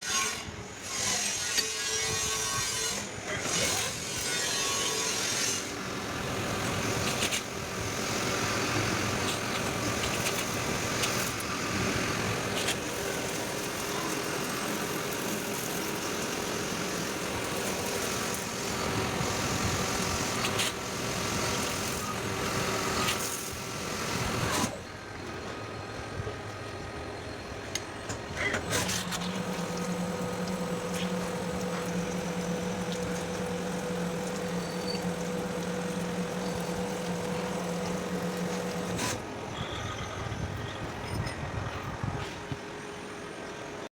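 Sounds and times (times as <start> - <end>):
machine whirring: 0.1 - 43.4.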